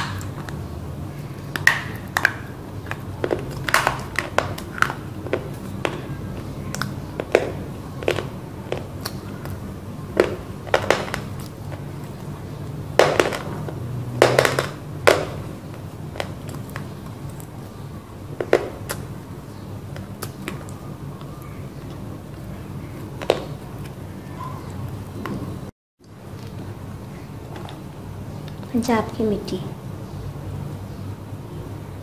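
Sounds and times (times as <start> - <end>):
crunching and chewing clay: 0.0 - 25.6
low steady hum: 0.0 - 32.0.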